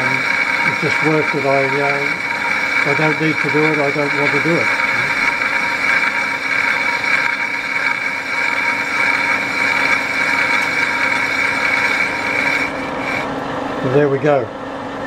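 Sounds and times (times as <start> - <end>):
metal lathe whine: 0.0 - 14.0.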